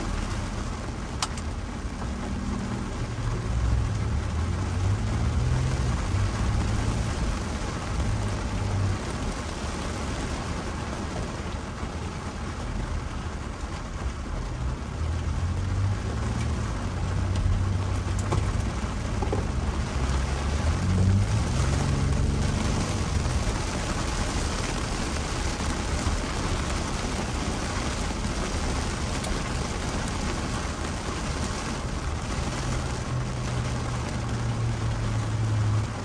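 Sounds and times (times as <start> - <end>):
engine and road rumble: 0.0 - 36.0
rain hissing on car: 0.0 - 36.0.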